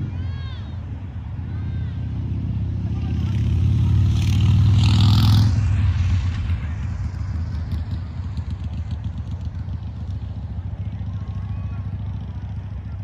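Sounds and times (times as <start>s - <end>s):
vehicle engine passing: 0.0s - 13.0s.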